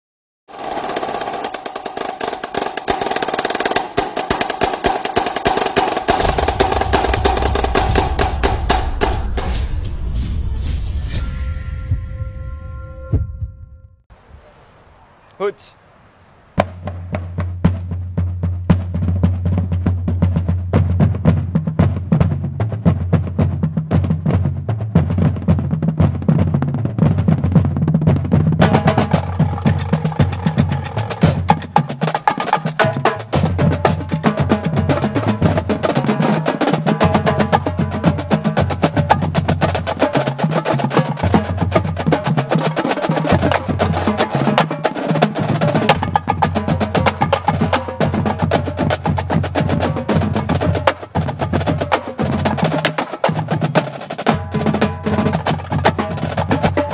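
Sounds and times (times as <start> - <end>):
marching drumline cadence: 0.5 - 9.8, 15.4 - 15.8, 16.6 - 56.9
snare drum rolls: 0.5 - 11.2, 16.6 - 56.9
bass drums: 5.6 - 12.1, 16.6 - 56.9.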